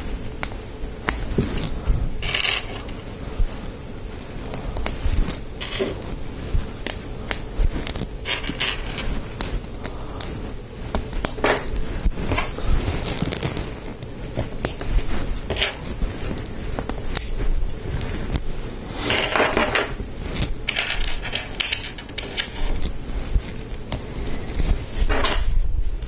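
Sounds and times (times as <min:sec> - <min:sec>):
handling rustles: 0:00.0 - 0:26.0.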